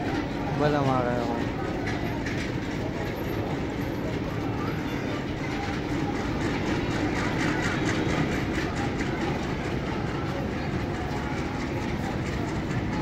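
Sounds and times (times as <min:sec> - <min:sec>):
train wheels clattering over rail joints: 0:00.0 - 0:13.0.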